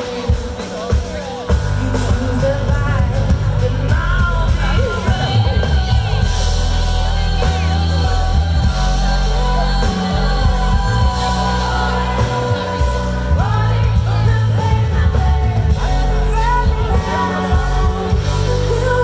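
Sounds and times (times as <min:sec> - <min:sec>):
live band music with singer: 0:00.0 - 0:19.0
steady bass line: 0:00.0 - 0:19.0.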